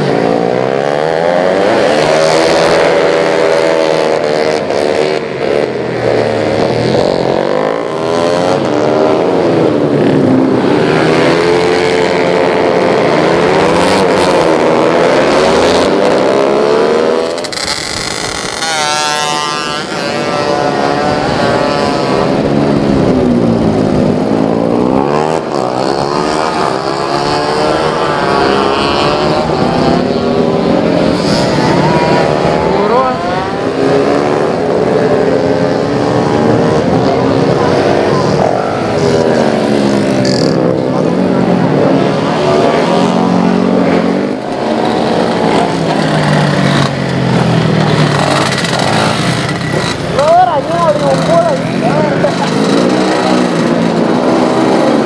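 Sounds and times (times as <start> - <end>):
scooter engines revving: 0.0 - 55.0.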